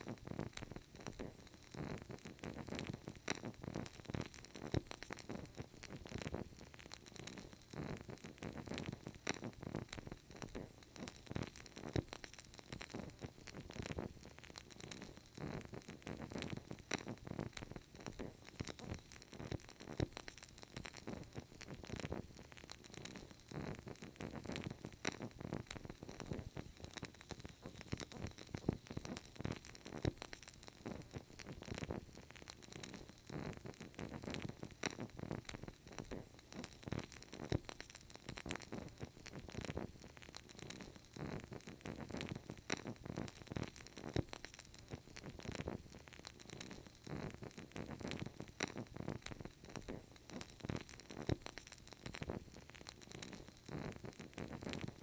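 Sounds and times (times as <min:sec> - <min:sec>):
candle crackling: 0:00.0 - 0:55.0.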